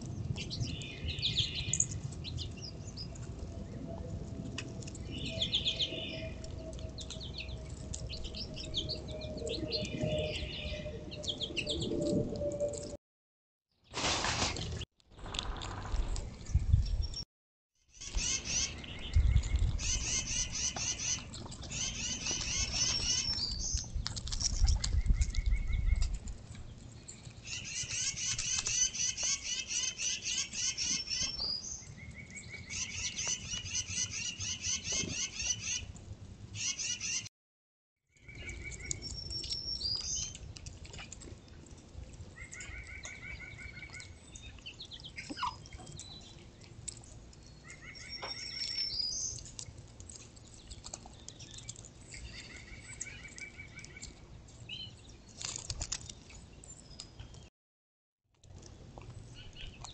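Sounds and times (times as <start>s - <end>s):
songbirds singing: 0.0s - 4.0s, 4.6s - 12.8s, 17.9s - 35.9s, 36.6s - 37.3s, 38.1s - 41.6s, 42.3s - 57.5s, 59.0s - 59.9s.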